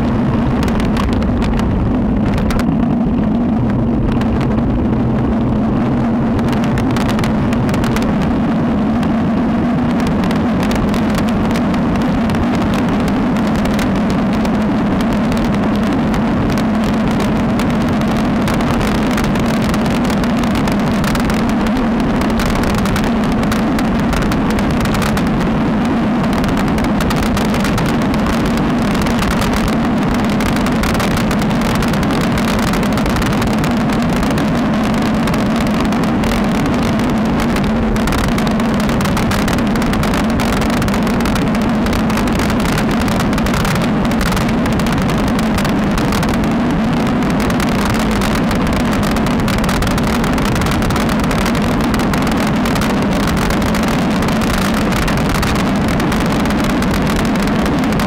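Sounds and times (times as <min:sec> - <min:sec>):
bike tyres rolling on asphalt: 0:00.0 - 0:58.0
constant low hum: 0:00.0 - 0:58.0
wind rush on microphone: 0:00.0 - 0:58.0.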